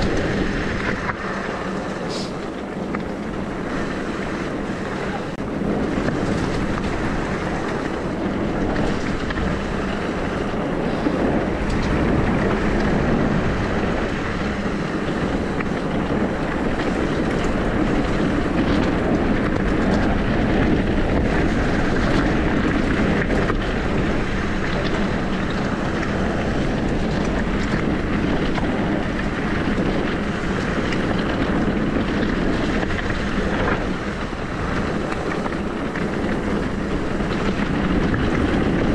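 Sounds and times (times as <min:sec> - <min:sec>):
e-bike rumble: 0:00.0 - 0:38.9
wind buffeting microphone: 0:00.0 - 0:38.9.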